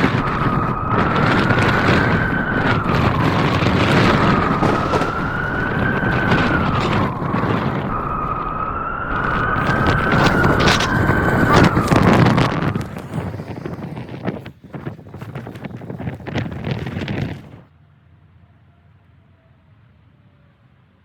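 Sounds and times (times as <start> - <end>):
blizzard wind howling: 0.0 - 17.7.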